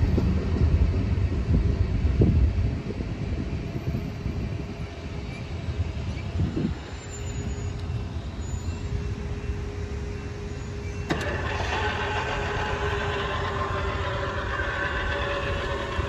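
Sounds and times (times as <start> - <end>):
rail and wheel noise: 0.0 - 16.0
train rumbling: 0.0 - 16.0.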